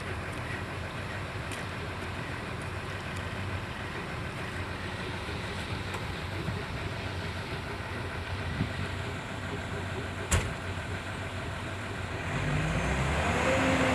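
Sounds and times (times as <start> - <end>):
excavator diesel engine droning: 0.0 - 13.9.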